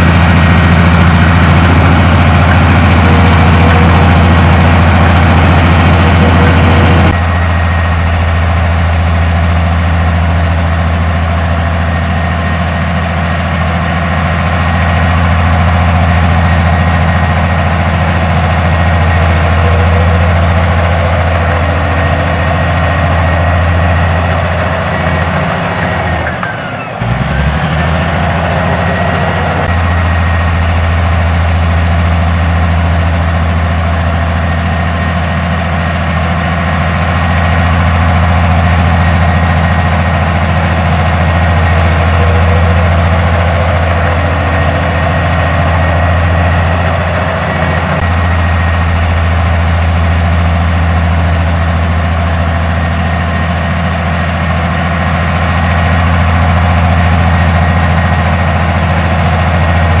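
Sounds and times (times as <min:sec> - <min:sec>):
bulldozer diesel engine: 0:00.0 - 1:00.0.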